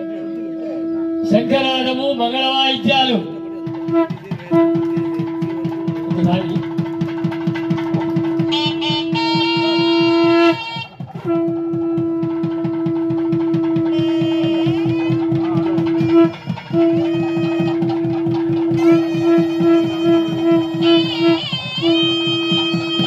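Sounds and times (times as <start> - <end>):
conch shell blasts: 0.0 - 23.0
reed instrument melody: 0.0 - 23.0
fast drumming: 1.3 - 23.0.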